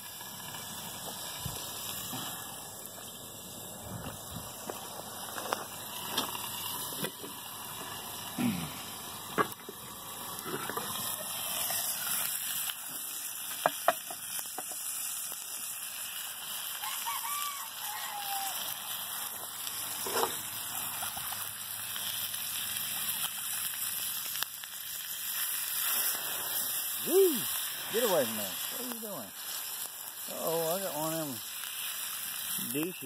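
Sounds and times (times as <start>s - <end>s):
sausage sizzling in a skillet: 0.0s - 33.0s
wood fire popping: 0.0s - 33.0s.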